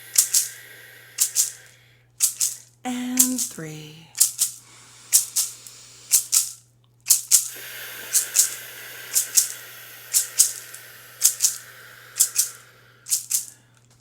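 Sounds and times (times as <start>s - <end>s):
shaker rattling: 0.0s - 13.6s
steady hiss: 0.0s - 13.7s.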